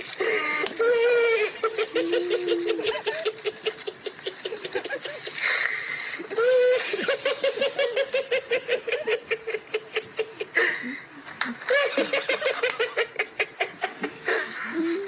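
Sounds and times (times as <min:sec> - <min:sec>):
high-pitched rapid laugh: 0:00.0 - 0:15.0.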